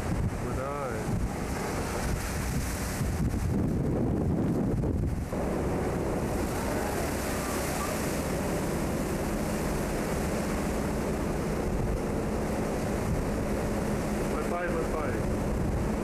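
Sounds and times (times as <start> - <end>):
waves rushing along ship hull: 0.0 - 16.0
wind buffeting microphone: 0.0 - 16.0.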